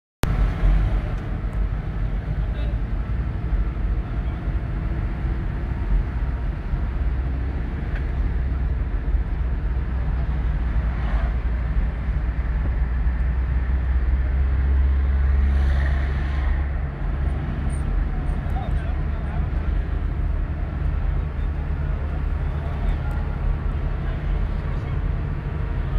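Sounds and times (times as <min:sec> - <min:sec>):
vehicle engines and road noise: 0:00.2 - 0:25.9.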